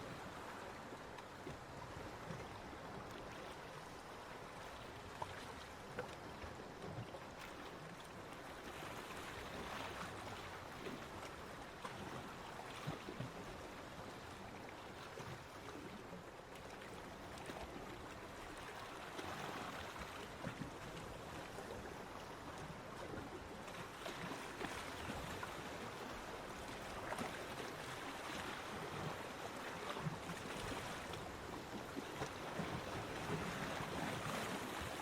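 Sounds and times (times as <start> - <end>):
small waves washing on a beach: 0.0 - 35.0.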